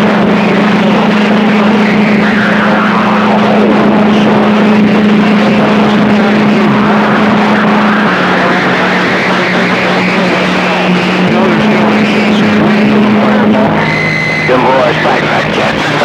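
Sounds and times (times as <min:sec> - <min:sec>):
faint garbled voices: 0:00.0 - 0:16.0
radio static: 0:00.0 - 0:16.0.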